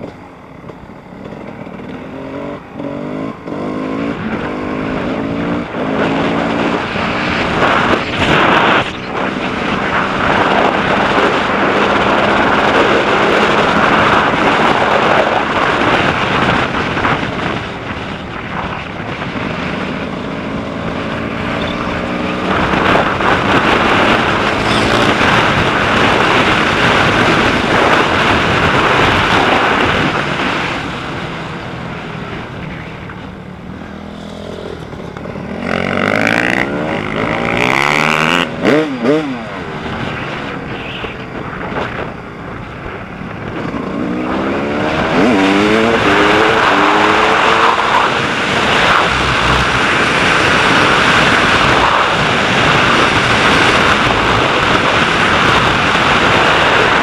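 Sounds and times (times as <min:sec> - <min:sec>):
dirt bike engine revving: 0:00.0 - 0:18.1, 0:19.0 - 0:31.2, 0:33.5 - 0:40.5, 0:43.5 - 0:57.0.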